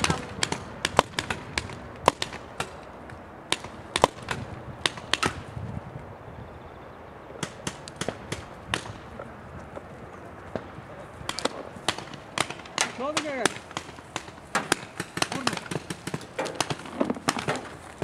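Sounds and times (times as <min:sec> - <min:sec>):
paintball markers firing: 0:00.0 - 0:02.9, 0:03.5 - 0:05.5, 0:07.4 - 0:09.9, 0:10.5 - 0:18.0.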